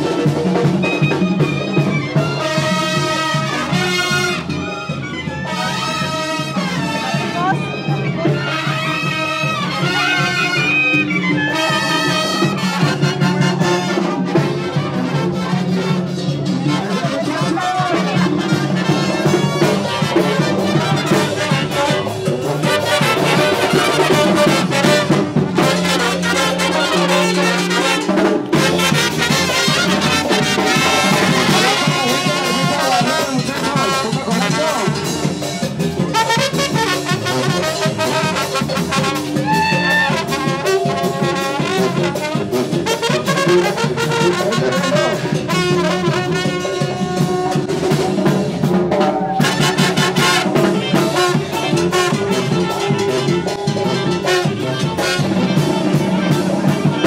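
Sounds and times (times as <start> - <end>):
bass line: 0.0 - 57.0
regular drum beat: 0.0 - 57.0
trumpets and trombones playing: 0.0 - 57.0.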